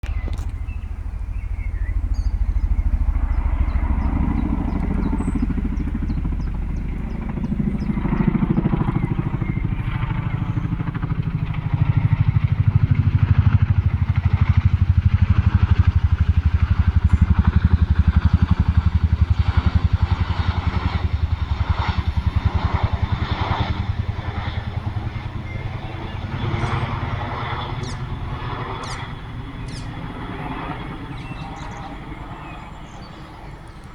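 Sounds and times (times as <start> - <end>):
helicopter rotor beat: 0.0 - 33.9.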